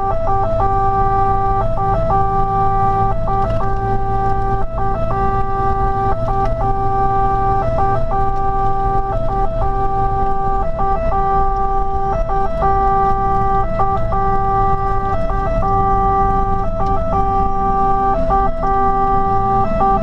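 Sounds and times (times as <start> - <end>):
fire engine electronic siren: 0.0 - 20.0
truck engine drone: 0.0 - 20.0.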